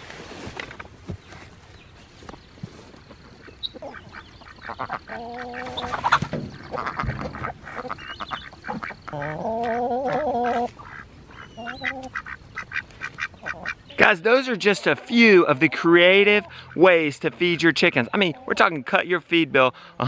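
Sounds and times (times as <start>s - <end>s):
ducks quacking: 3.3s - 20.0s.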